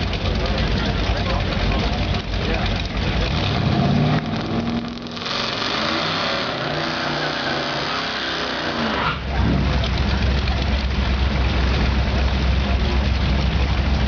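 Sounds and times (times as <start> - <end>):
drag cars accelerating hard: 0.0 - 14.0.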